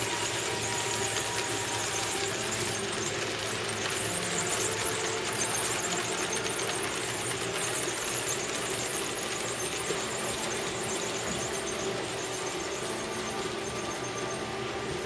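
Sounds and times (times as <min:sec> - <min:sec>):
metal wheels rolling on rails: 0:00.0 - 0:15.0.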